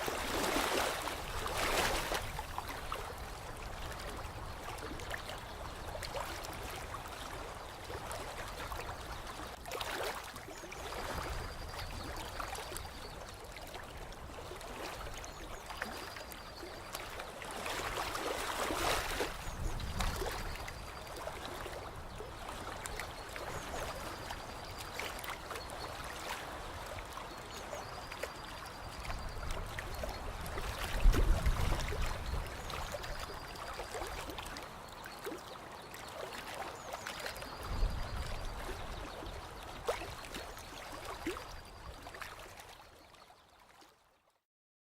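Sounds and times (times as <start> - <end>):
lake water lapping: 0.0 - 43.1.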